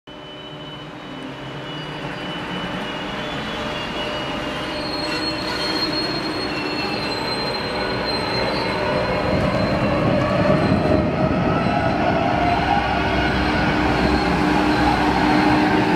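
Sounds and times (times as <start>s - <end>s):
electric train whining: 0.2s - 15.9s
train rumble: 0.8s - 15.9s.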